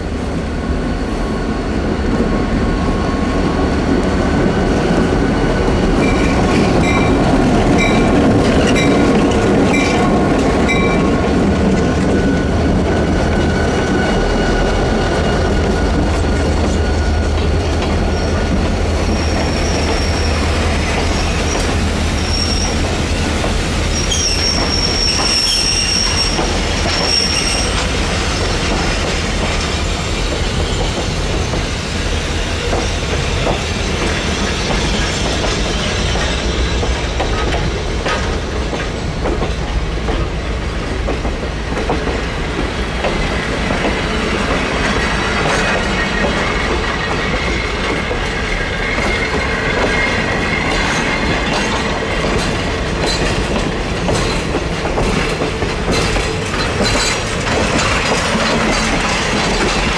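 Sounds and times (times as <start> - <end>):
train wheels clicking over rail joints: 4.0 - 59.9.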